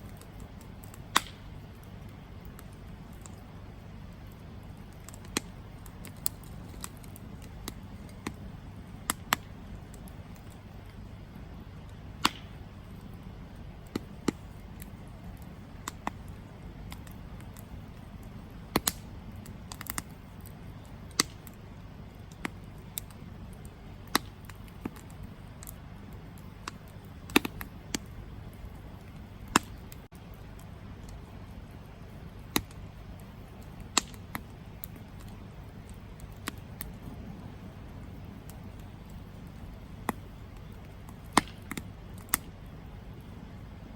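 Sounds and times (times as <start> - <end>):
campfire crackling and popping: 0.0 - 43.9
low rumble of flame: 0.0 - 43.9.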